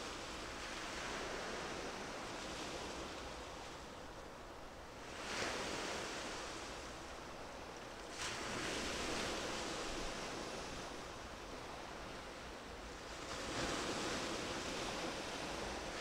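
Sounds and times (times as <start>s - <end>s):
small waves washing ashore: 0.0s - 16.0s.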